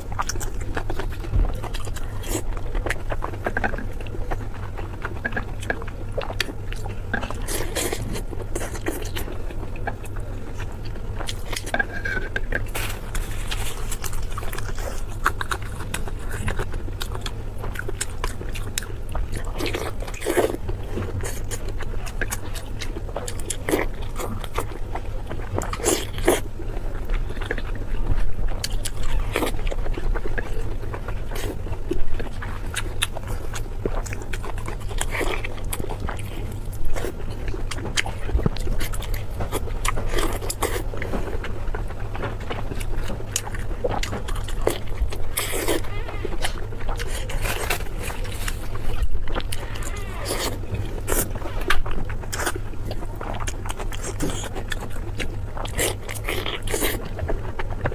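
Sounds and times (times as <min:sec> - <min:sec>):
crunchy bites and chewing: 0:00.0 - 0:57.9
steady low hum: 0:00.0 - 0:57.9.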